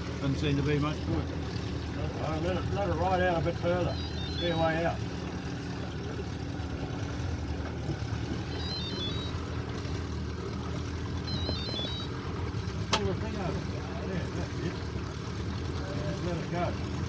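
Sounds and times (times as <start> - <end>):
outboard motor humming: 0.0 - 17.0
water noise: 0.0 - 17.0
wind: 0.0 - 17.0.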